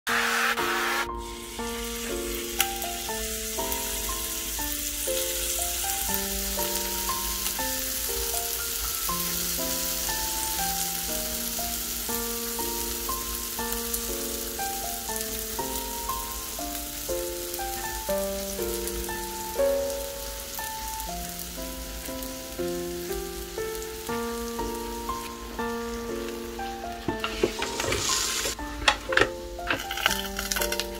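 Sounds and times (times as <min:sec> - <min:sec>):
waffle batter sizzling: 0:00.1 - 0:30.9.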